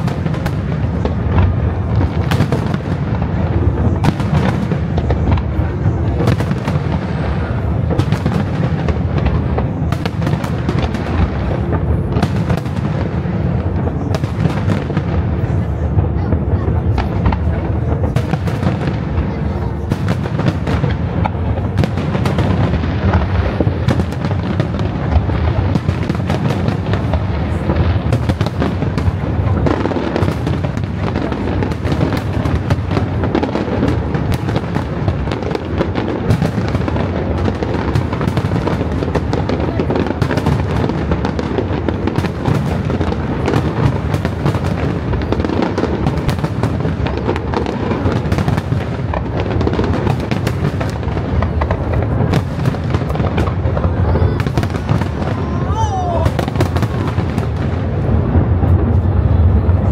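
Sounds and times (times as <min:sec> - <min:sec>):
fireworks bursts and crackles: 0:00.0 - 0:59.9.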